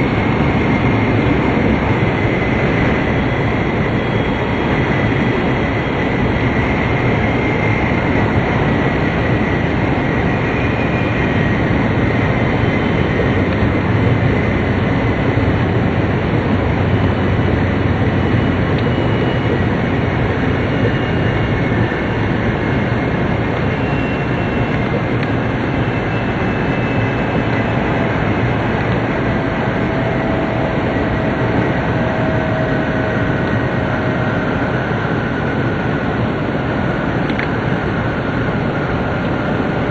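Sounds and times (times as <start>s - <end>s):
faint whining tones: 0.0s - 39.9s
train running noise from inside: 0.0s - 39.9s.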